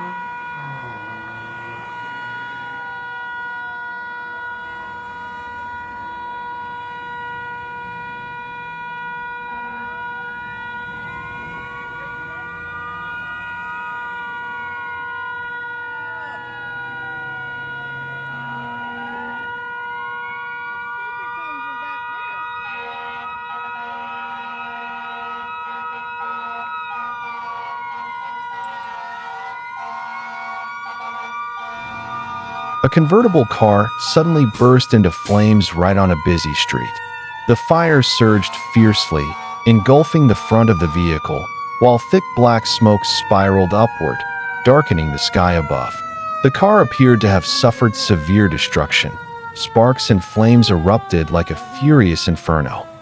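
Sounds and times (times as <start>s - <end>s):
continuous horn-like tone: 0.0s - 36.9s, 37.5s - 53.0s
faint emergency sirens: 0.0s - 53.0s.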